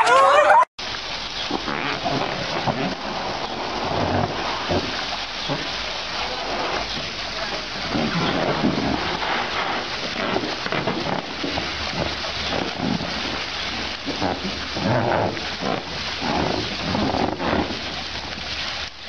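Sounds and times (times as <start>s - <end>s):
water splashing in a pool: 0.1s - 19.0s
hose spraying water: 0.8s - 19.0s.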